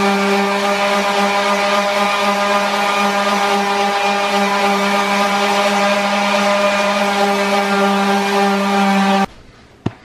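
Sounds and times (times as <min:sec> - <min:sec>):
electric sander humming: 0:00.0 - 0:09.3.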